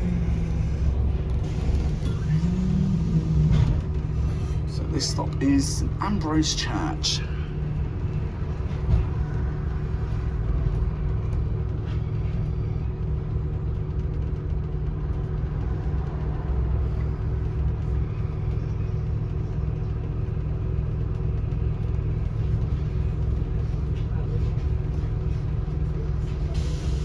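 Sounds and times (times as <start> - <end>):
bus diesel engine droning: 0.0 - 27.0.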